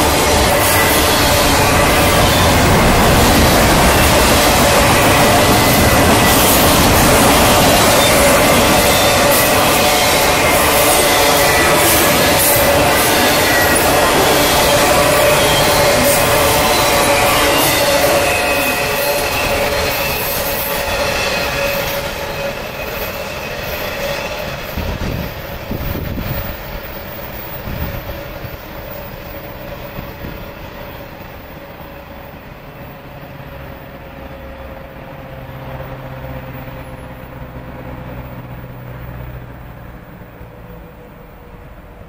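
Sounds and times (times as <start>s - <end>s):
train wheels squealing: 0.0s - 39.4s
freight train rolling on rails: 0.0s - 42.0s.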